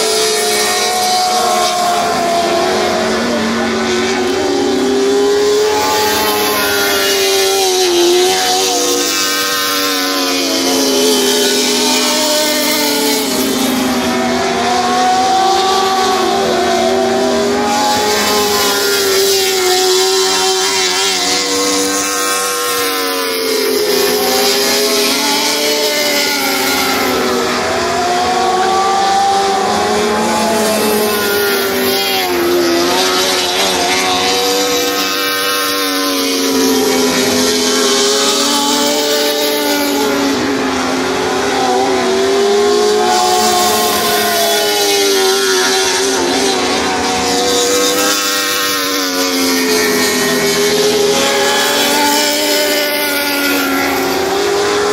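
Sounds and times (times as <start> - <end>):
racing car engines revving: 0.0 - 54.9.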